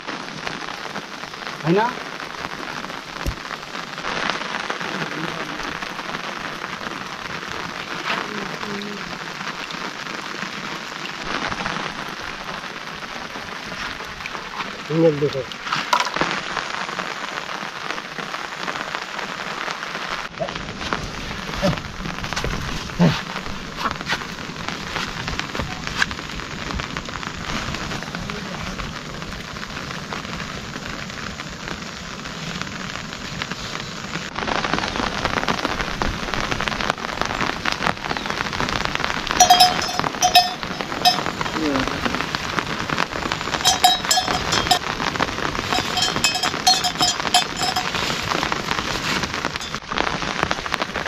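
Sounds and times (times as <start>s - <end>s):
raindrops striking close by: 0.0s - 51.0s
steady rain falling: 0.0s - 51.0s.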